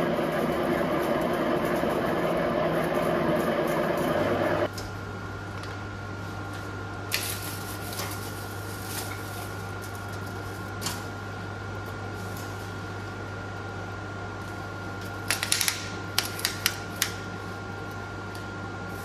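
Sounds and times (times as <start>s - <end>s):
machine hum with high whine: 0.0s - 19.0s.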